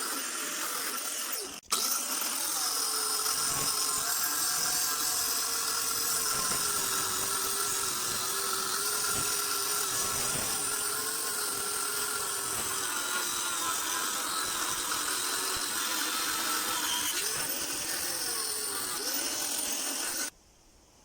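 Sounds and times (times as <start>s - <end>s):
angle grinder cutting steel: 0.0s - 20.3s.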